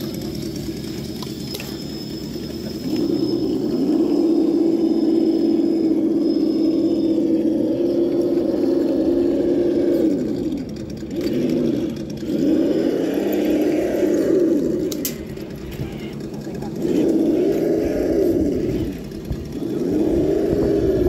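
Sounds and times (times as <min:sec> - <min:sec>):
toy car electric motor whining: 0:00.0 - 0:21.0.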